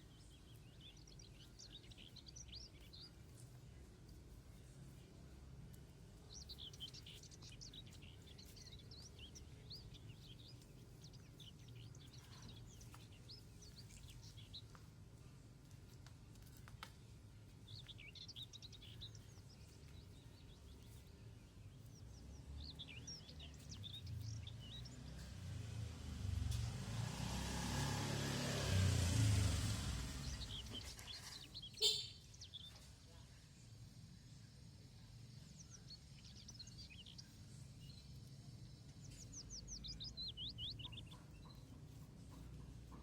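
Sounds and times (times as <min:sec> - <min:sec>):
sparrow chirping: 0:00.0 - 0:03.6, 0:06.2 - 0:14.9, 0:17.6 - 0:33.0, 0:35.0 - 0:43.0.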